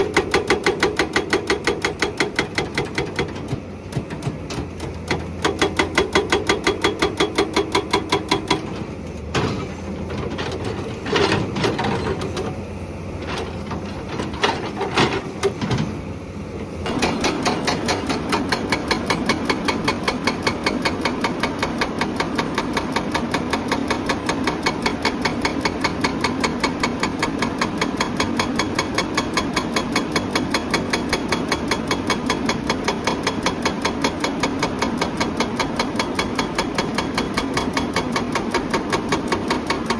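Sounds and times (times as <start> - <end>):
hydraulic breaker hammering rock: 0.0 - 12.6, 16.8 - 39.9
excavator engine: 0.0 - 39.9.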